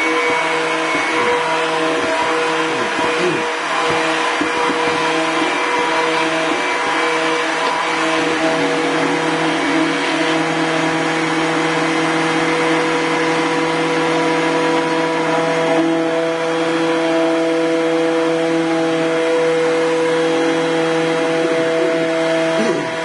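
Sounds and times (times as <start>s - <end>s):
stick blender motor running: 0.0s - 23.0s.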